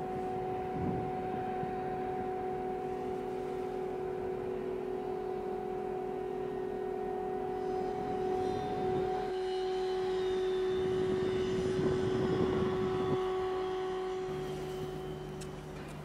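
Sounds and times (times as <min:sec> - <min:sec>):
heavy machinery whining: 0:00.0 - 0:16.0
higher faint whine: 0:00.0 - 0:16.0
low steady hum: 0:00.0 - 0:16.0.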